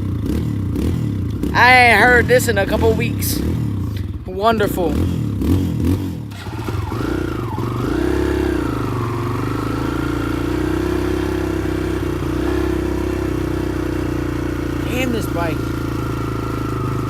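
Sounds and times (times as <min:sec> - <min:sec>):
dirt bike engine revving and idling: 0:00.0 - 0:17.0.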